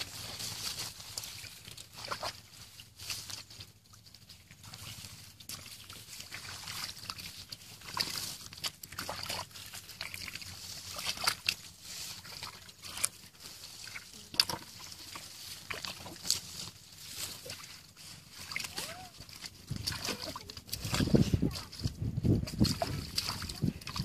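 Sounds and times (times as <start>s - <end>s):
hands splashing in muddy water: 0.0s - 24.0s.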